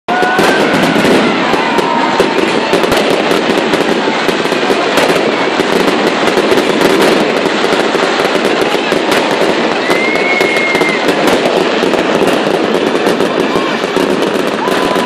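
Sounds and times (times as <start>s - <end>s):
fireworks crackling and banging: 0.1s - 15.0s.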